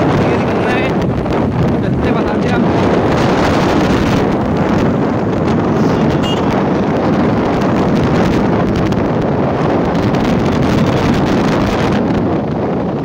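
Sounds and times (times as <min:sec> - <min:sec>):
motorcycle engine: 0:00.0 - 0:12.5
wind rushing over microphone: 0:00.0 - 0:13.0.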